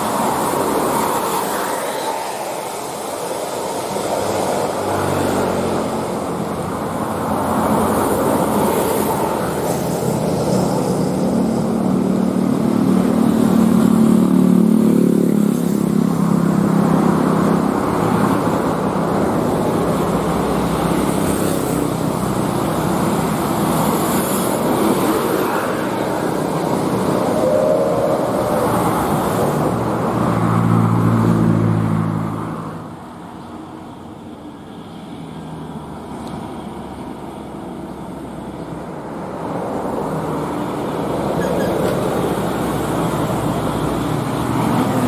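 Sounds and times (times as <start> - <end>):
bus diesel engine hum: 0.0 - 45.0
cars passing: 0.0 - 45.0.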